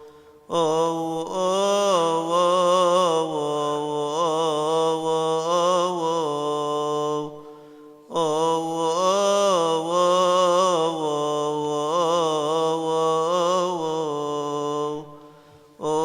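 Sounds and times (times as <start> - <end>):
man chanting a hymn: 0.5 - 16.0.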